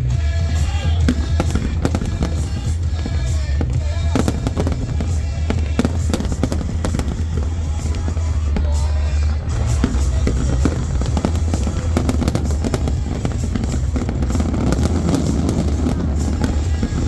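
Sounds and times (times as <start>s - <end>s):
deep rumble: 0.0s - 17.0s
fireworks bangs and crackles: 0.0s - 17.0s
music: 0.0s - 17.0s.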